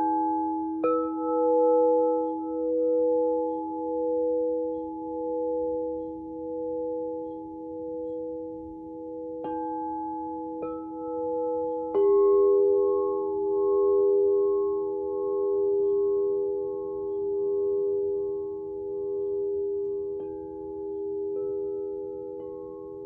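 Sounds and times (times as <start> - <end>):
singing bowls ringing: 0.0 - 23.0.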